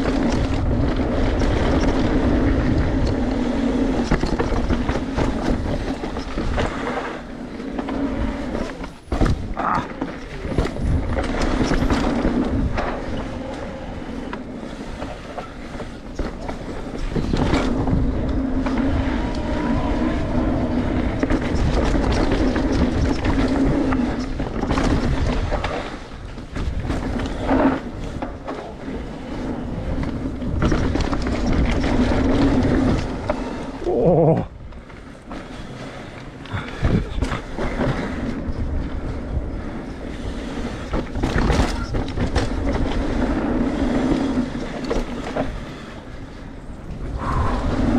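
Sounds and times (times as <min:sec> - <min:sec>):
bike frame and chain rattling: 0:00.0 - 0:33.6, 0:35.1 - 0:46.8
tyres rumbling: 0:00.0 - 0:47.9.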